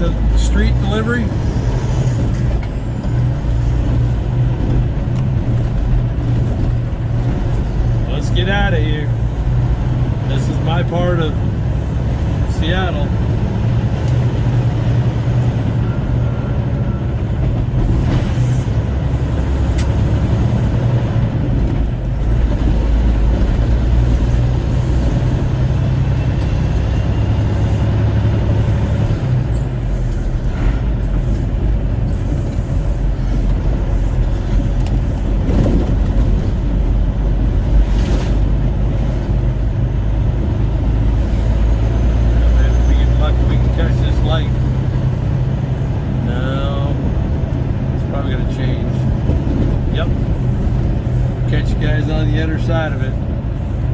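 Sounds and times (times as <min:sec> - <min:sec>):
truck engine and road noise: 0:00.0 - 0:53.9.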